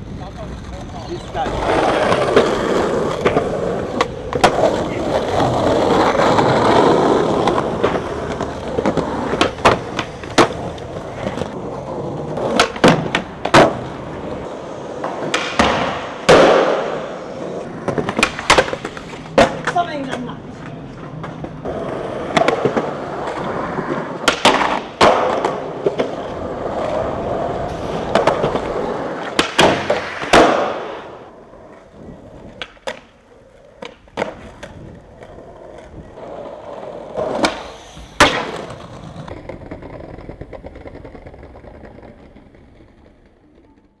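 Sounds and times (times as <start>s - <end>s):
skateboard wheels rolling on concrete: 0.0s - 44.0s
skateboard tail pops and landings: 1.6s - 20.2s, 21.2s - 36.5s, 37.1s - 43.2s.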